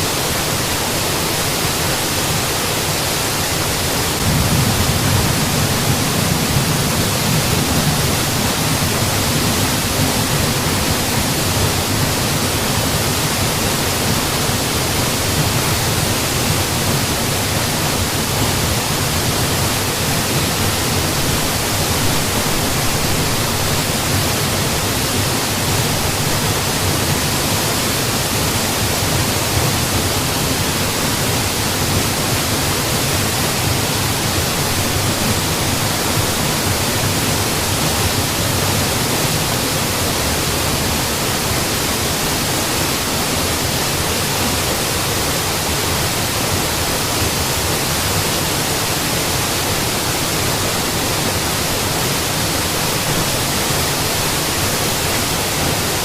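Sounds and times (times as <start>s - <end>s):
waterfall pouring: 0.2s - 56.0s.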